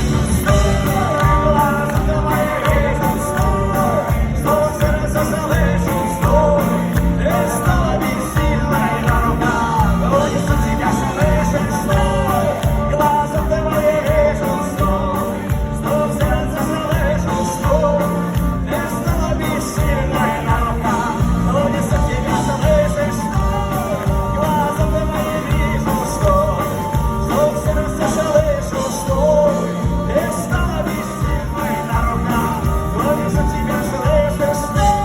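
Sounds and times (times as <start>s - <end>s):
man singing: 0.0s - 35.0s
rock band with drum beat: 0.0s - 35.0s.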